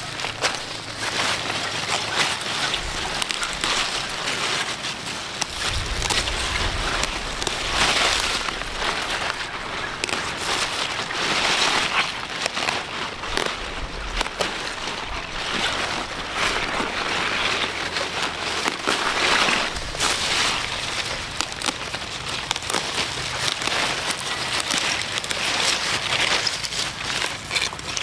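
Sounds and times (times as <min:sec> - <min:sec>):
leaves rustling: 0:00.0 - 0:28.0
stalks crackling: 0:00.0 - 0:28.0
straw mulch crunching underfoot: 0:00.0 - 0:28.0.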